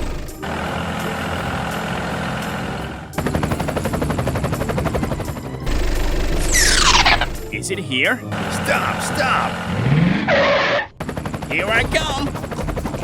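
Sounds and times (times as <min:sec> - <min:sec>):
truck engine running: 0:00.0 - 0:07.6, 0:08.2 - 0:13.0.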